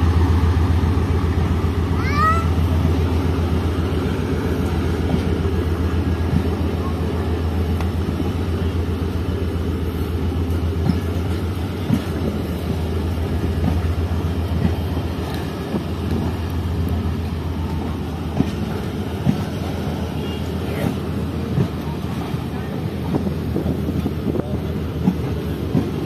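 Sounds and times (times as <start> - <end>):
train coaches rumbling: 0.0 - 26.0.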